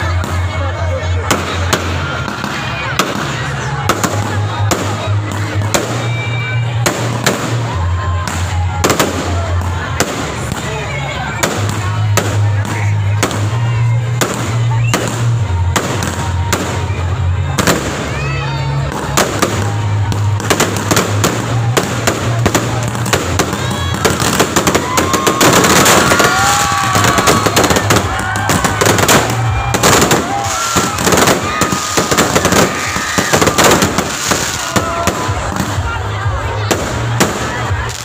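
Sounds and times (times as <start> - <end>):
background music: 0.0 - 38.0
crowd voices: 0.0 - 38.0
fireworks bangs and crackles: 0.0 - 38.0.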